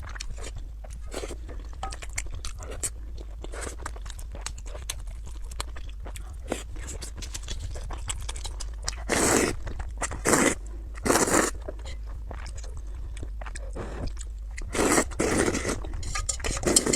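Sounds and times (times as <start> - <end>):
person chewing food: 0.0 - 16.9.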